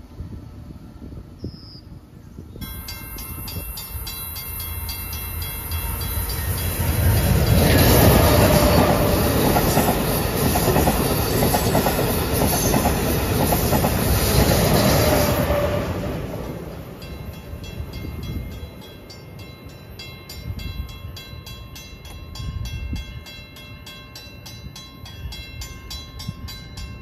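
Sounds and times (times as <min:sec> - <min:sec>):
train rushing past: 0:00.0 - 0:22.8
crossing bell ringing: 0:02.6 - 0:13.8, 0:14.9 - 0:27.0.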